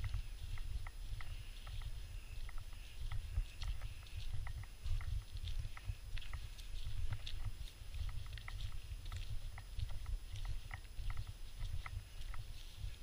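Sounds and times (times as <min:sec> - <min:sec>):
muffled rumbling and thumping: 0:00.0 - 0:13.0.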